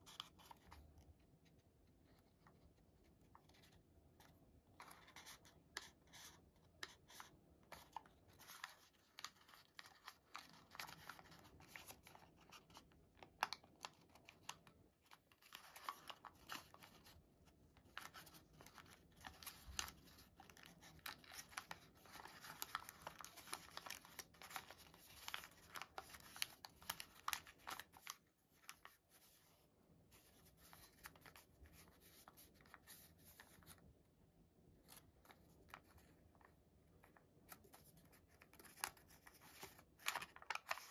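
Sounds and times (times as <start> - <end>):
paper crinkling and rustling: 2.0 - 33.8, 34.8 - 40.9.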